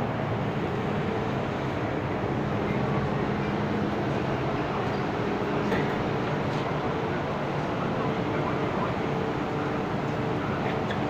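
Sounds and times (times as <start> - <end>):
metro platform hum and rumble: 0.0 - 11.0.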